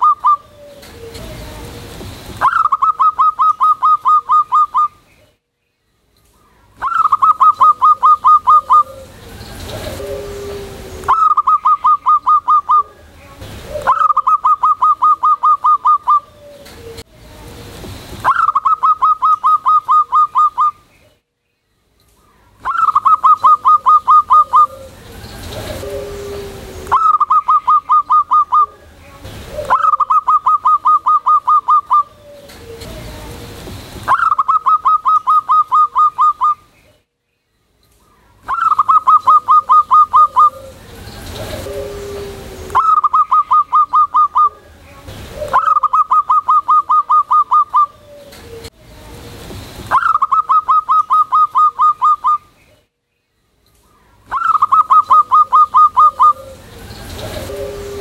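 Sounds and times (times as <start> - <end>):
dove cooing: 0.0 - 5.0, 6.8 - 17.1, 18.2 - 20.8, 22.6 - 36.6, 38.4 - 48.8, 49.9 - 52.4, 54.2 - 58.0
background hiss: 0.0 - 58.0.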